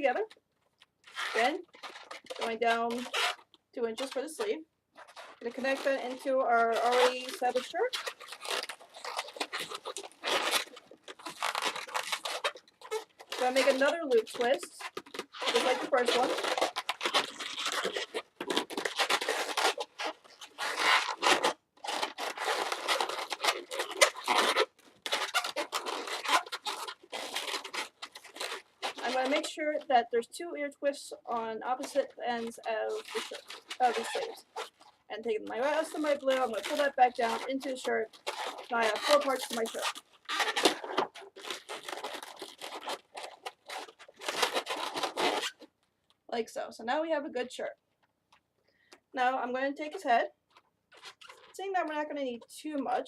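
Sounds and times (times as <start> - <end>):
balloons rubbing squeaking: 1.0 - 45.8, 49.2 - 52.0.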